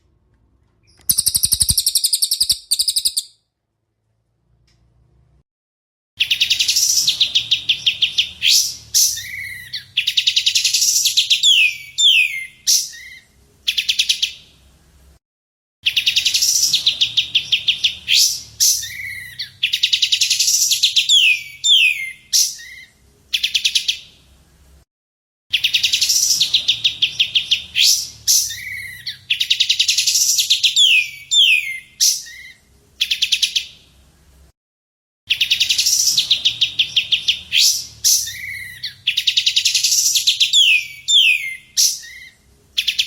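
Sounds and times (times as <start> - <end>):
songbird trill and whistles: 0.8 - 3.4, 6.2 - 14.4, 15.9 - 24.1, 25.5 - 33.8, 35.3 - 43.0.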